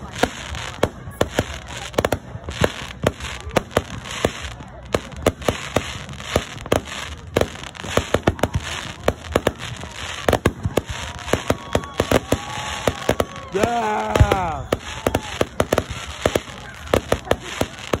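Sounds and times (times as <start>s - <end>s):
firework crackling: 0.0s - 18.0s.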